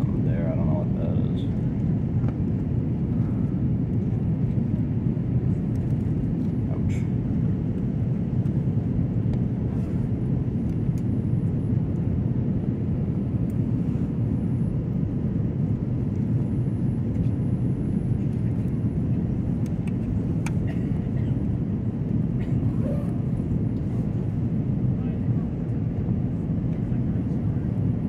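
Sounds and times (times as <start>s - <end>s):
airliner cabin noise: 0.0s - 28.0s.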